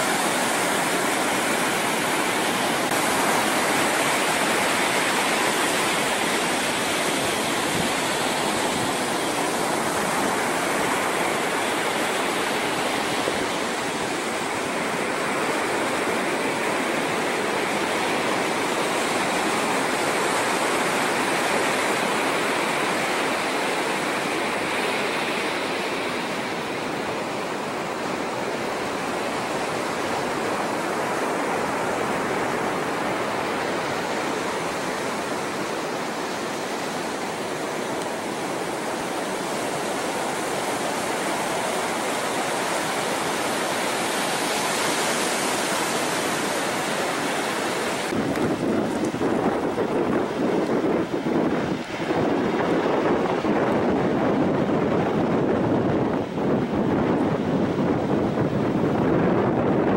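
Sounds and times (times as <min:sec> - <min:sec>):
ocean surf rushing: 0:00.0 - 0:59.9.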